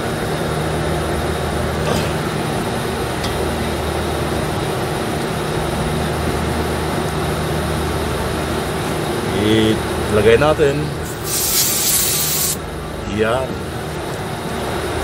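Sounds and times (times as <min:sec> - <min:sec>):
air conditioning unit drone: 0:00.0 - 0:15.0.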